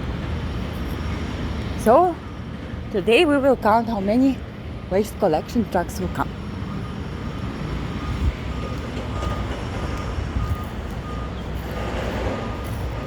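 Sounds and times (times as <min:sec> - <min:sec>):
truck reversing alarm beeping: 0:00.0 - 0:13.0.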